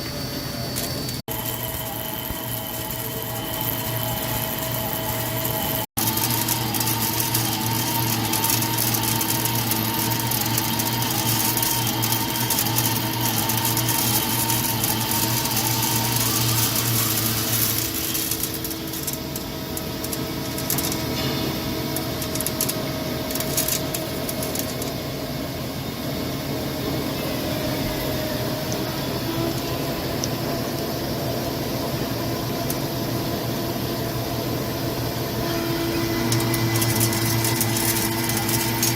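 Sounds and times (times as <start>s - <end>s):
lathe machine hum: 0.0s - 38.9s.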